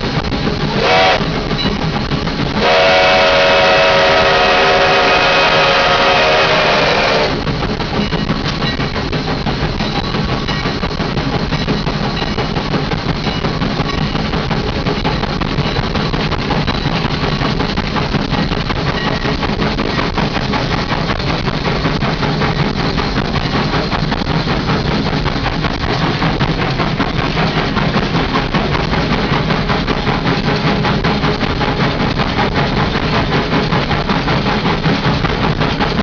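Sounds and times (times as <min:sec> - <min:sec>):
steam locomotive running: 0:00.0 - 0:36.0.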